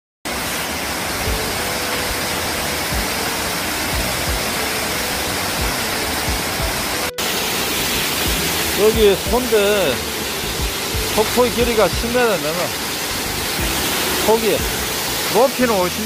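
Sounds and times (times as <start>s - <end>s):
waterfall rushing onto rocks: 0.3s - 16.0s.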